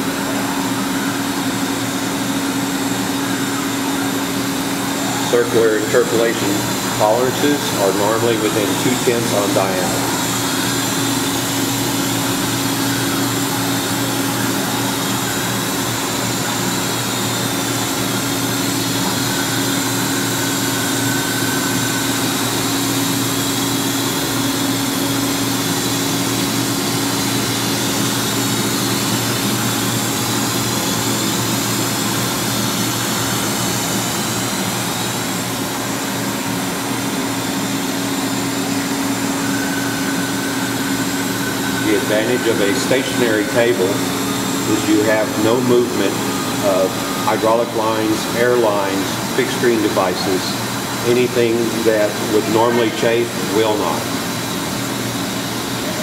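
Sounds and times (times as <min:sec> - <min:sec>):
drilling machine whine and hum: 0:00.0 - 0:56.0.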